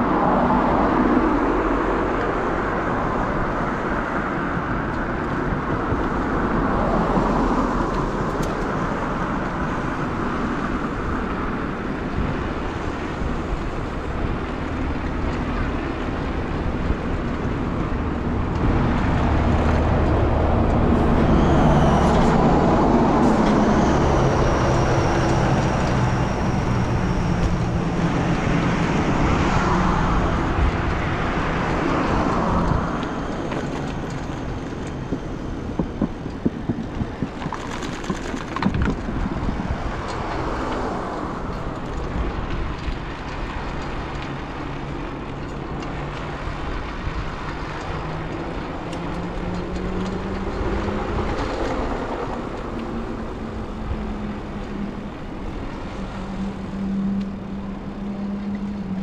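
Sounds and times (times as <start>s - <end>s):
cars passing: 0.0s - 59.0s
low traffic rumble: 0.0s - 59.0s
truck engine: 0.0s - 59.0s.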